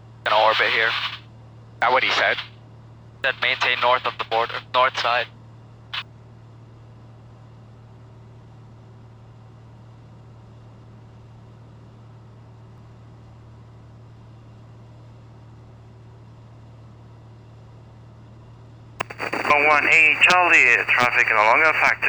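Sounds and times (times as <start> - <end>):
light aircraft engine and propeller: 0.0 - 19.0.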